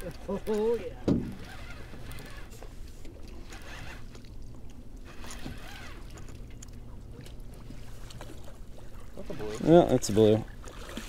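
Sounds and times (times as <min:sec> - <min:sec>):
boat engine low hum: 0:00.0 - 0:11.0.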